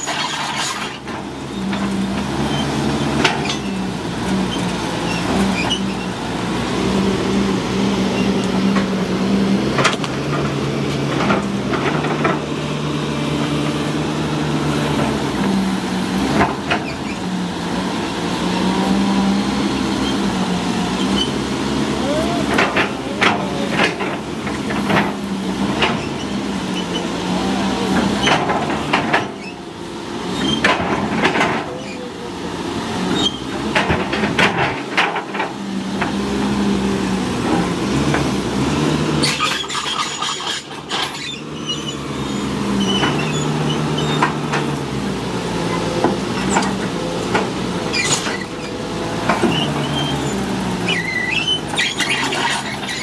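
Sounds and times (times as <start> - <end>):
excavator diesel engine working: 0.0 - 53.0.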